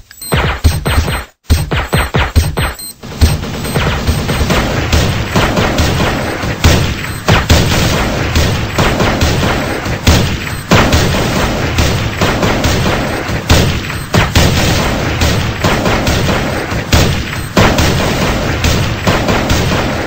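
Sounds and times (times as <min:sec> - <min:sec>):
music with punchy drum hits: 0:00.3 - 0:19.8.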